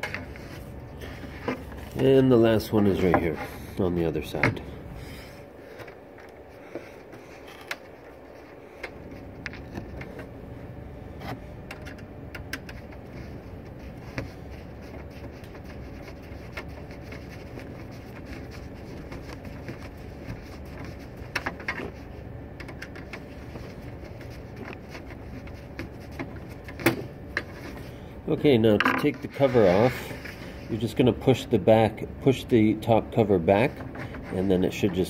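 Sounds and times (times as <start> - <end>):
background hum: 0.0 - 35.0.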